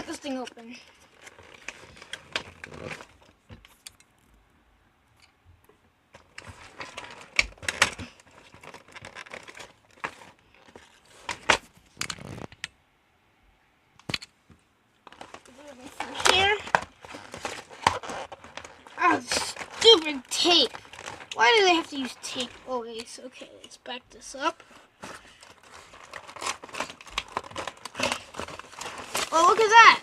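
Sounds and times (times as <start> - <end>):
packaging crinkling and tearing: 0.0 - 4.3, 6.2 - 12.5, 15.0 - 23.2, 24.4 - 30.0.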